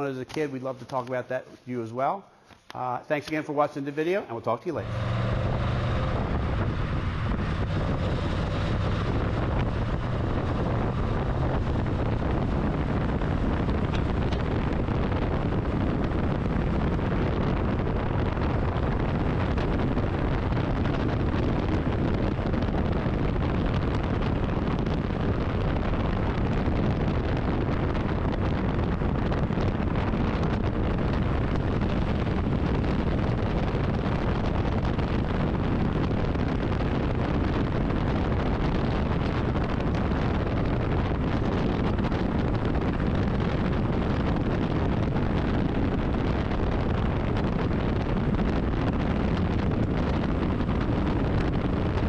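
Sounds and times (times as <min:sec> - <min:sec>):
wind buffeting microphone: 0:04.6 - 0:52.0
car engine exhaust cruising: 0:04.8 - 0:52.0.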